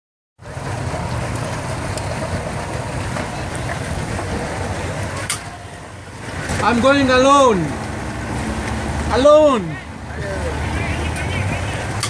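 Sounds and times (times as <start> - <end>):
outboard motor running: 0.4 - 12.0.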